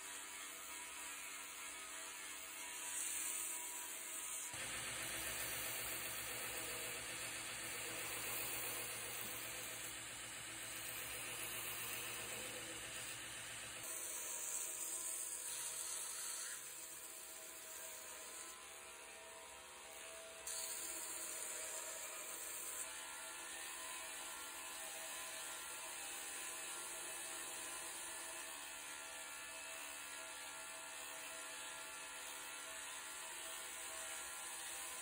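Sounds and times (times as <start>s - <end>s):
belt grinder grinding wood: 0.0s - 35.0s.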